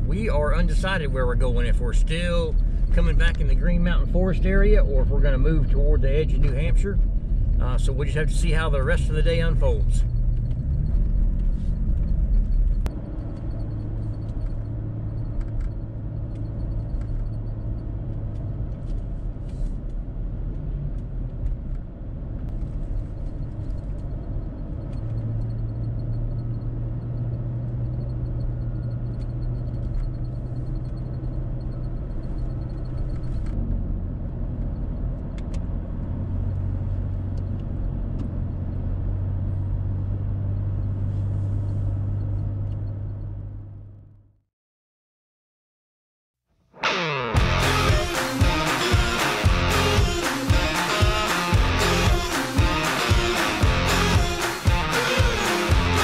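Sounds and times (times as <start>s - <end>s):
car engine hum: 0.0s - 44.1s, 46.8s - 56.0s
road rumble: 0.0s - 44.3s, 46.8s - 56.0s.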